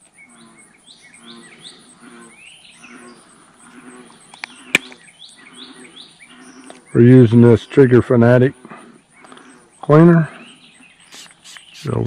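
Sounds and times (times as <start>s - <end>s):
birds chirping: 0.0s - 12.0s
pulsing insect drone: 0.0s - 12.0s.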